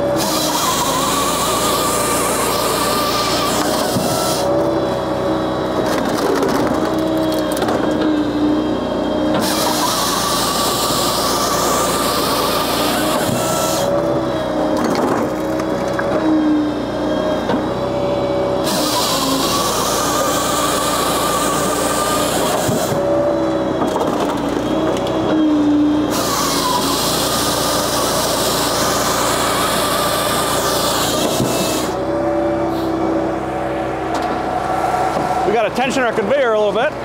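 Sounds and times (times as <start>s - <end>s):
saw cutting through logs: 0.0s - 36.8s
engine and hydraulics droning: 0.0s - 37.0s.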